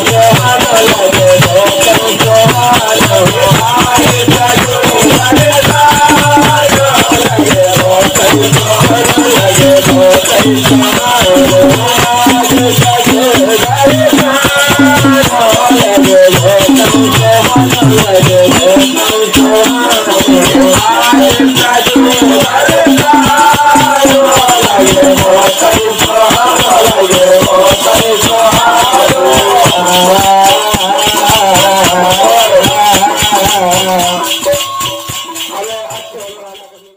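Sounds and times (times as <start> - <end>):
dholak drum beating: 0.0 - 36.9.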